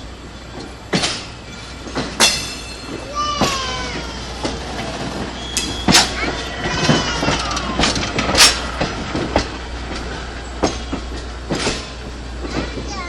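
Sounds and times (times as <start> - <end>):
low train rumble: 0.0 - 13.0
train wheels clanking over rail joints: 0.0 - 13.0.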